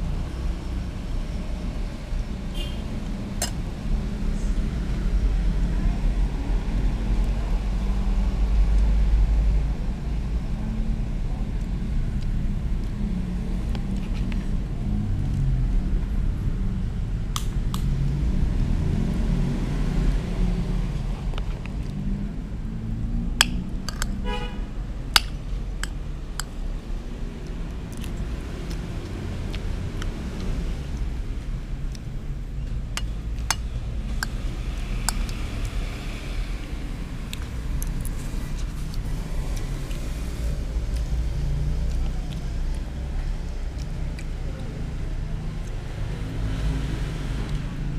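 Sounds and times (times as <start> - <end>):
steady low rumble: 0.0 - 46.2.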